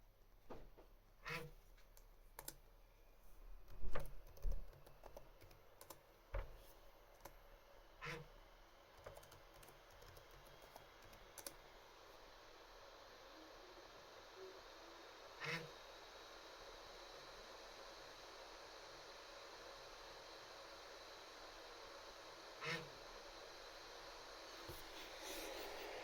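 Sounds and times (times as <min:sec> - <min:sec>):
faint fan hiss: 0:00.0 - 0:26.0.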